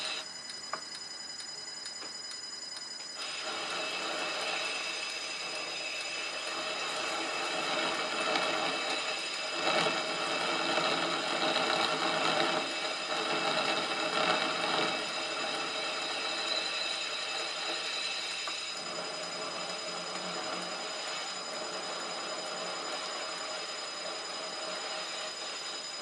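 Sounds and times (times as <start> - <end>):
milling machine motor whine: 0.0 - 26.0
metal cutting noise: 3.2 - 26.0.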